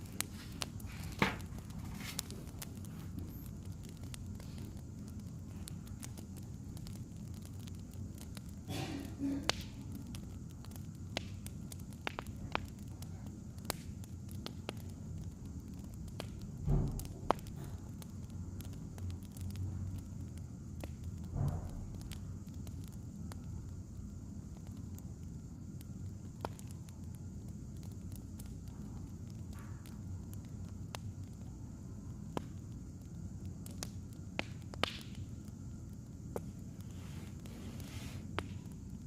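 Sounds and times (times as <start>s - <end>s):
fire flaring up: 0.0s - 39.0s
wood fire crackling: 0.0s - 39.0s.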